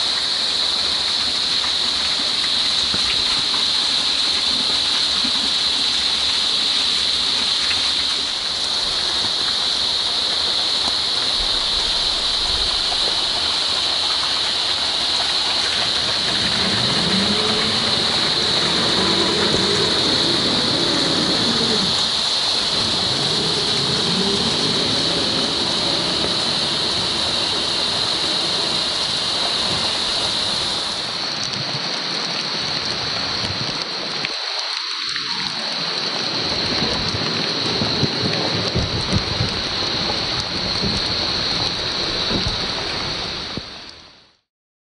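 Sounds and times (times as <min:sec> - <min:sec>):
steady rain hiss: 0:00.0 - 0:44.5.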